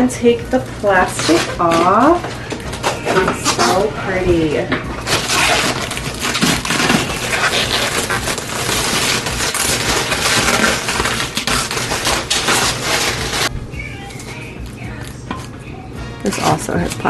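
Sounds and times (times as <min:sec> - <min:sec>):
plastic wrapping crinkling: 0:00.5 - 0:04.2, 0:05.0 - 0:15.2.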